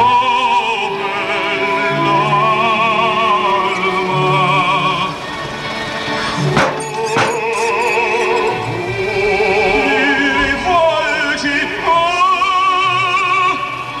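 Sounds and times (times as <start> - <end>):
operatic voice singing: 0.0 - 14.0
sustained accompaniment: 0.0 - 14.0.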